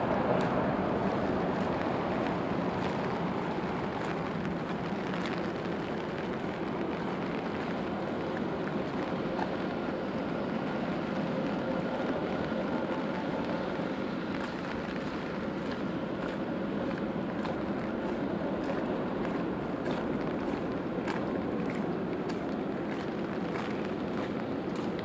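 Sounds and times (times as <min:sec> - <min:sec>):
vehicles hissing on wet pavement: 0:00.0 - 0:25.0.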